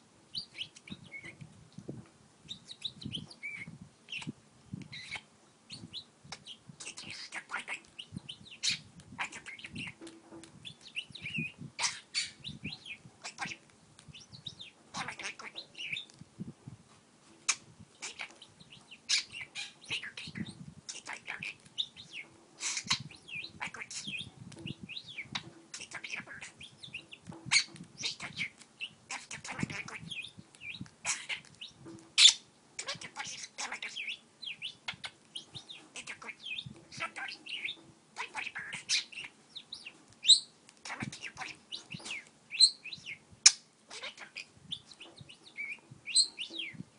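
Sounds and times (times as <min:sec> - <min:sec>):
budgerigar chattering and chirping: 0:00.3 - 0:01.4, 0:02.5 - 0:04.3, 0:04.9 - 0:16.1, 0:17.5 - 0:46.8.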